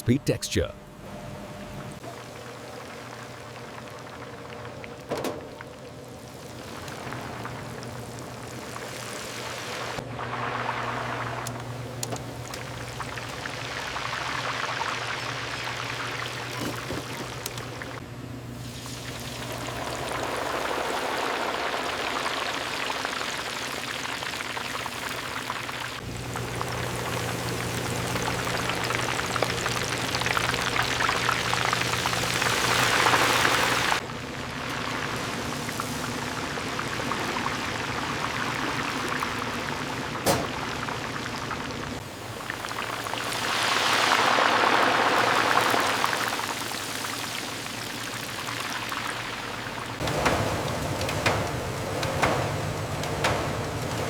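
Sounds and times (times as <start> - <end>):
chicken deep-frying in oil: 2.0 - 54.0.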